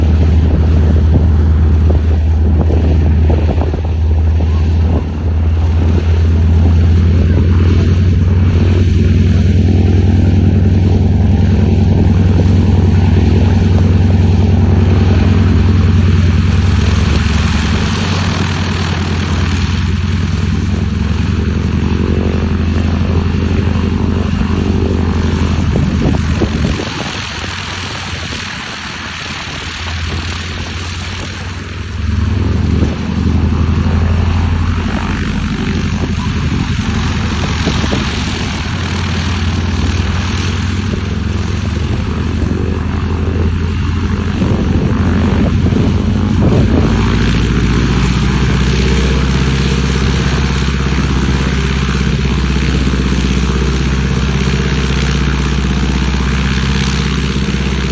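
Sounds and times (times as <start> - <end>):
propeller plane engine drone: 0.0 - 57.9.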